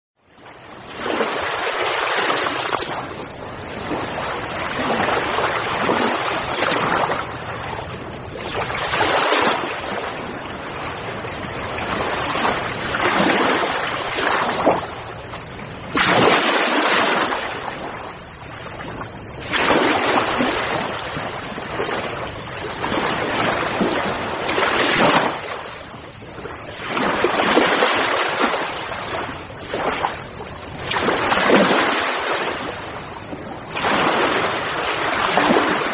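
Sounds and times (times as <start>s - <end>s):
sea waves breaking on shore: 0.3s - 35.9s.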